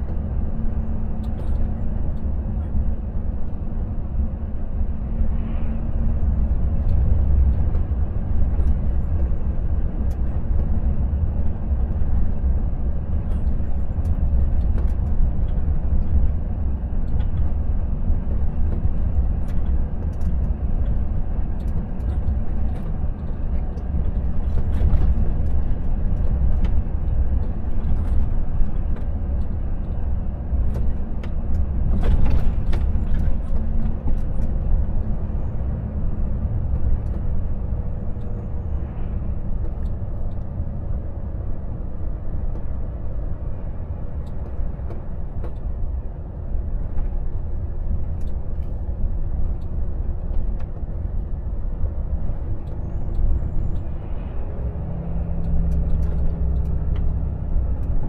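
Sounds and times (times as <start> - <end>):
road rumble: 0.0 - 58.0
truck diesel engine drone: 0.0 - 58.0.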